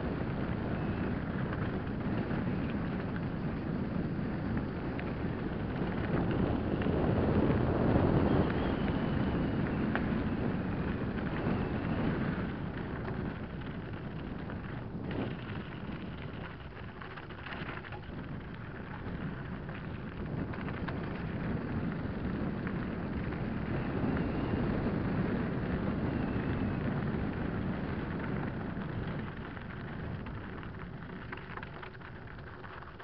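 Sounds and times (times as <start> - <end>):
bike rattling: 0.0 - 33.0
bike tyres crunching on gravel: 0.0 - 33.0
patter of small stones: 0.1 - 33.0.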